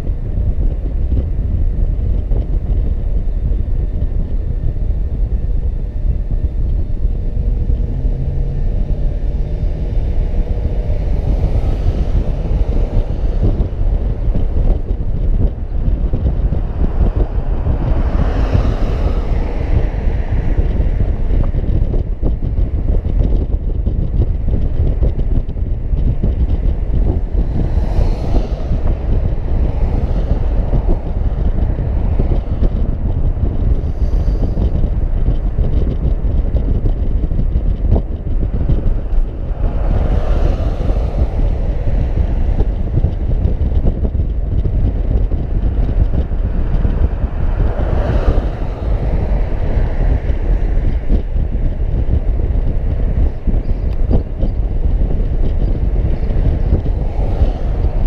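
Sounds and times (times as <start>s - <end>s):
passing traffic: 0.0s - 58.0s
road noise: 0.0s - 58.0s
wind rumble on microphone: 0.0s - 58.0s.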